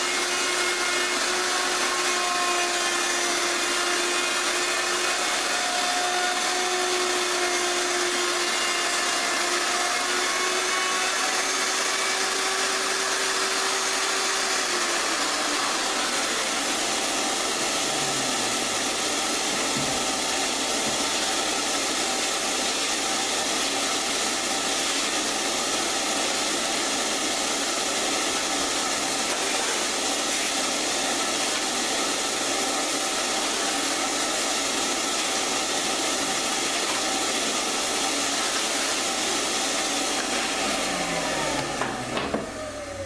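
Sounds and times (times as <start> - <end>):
dust collector running: 0.0 - 43.0
router cutting wood: 0.0 - 43.0
router spinning down: 0.0 - 43.0.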